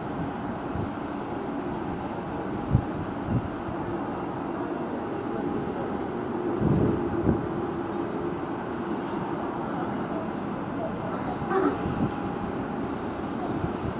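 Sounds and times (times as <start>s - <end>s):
electric train humming: 0.0s - 13.9s.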